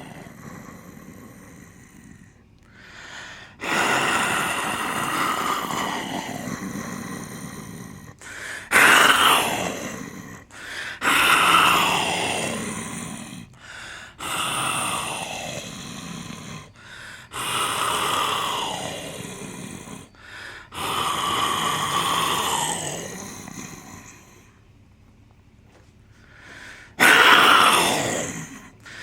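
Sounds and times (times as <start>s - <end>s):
man imitating tiger roars: 0.0s - 2.4s, 3.6s - 24.6s, 26.9s - 29.0s.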